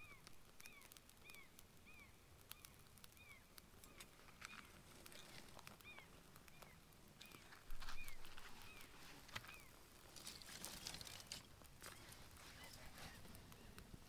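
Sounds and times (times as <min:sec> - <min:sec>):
bird calling: 0:00.0 - 0:13.8.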